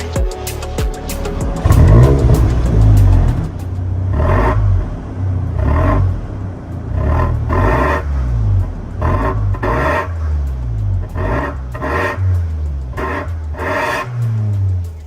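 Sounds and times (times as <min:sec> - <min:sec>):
car engine revving: 0:01.1 - 0:15.0.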